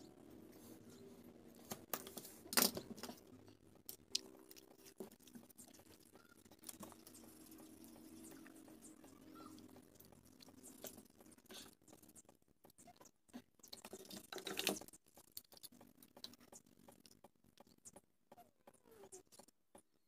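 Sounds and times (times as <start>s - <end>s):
wooden sticks clicking and tapping: 1.7s - 19.9s.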